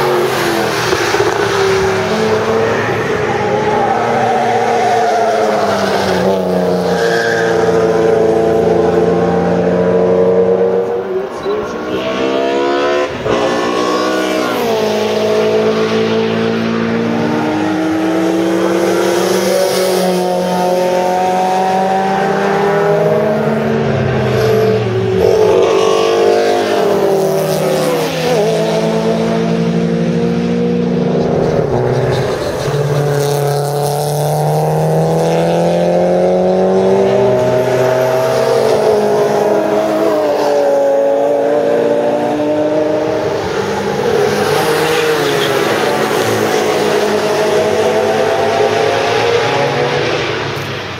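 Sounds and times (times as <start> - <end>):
car engines revving through gears: 0.0 - 50.9.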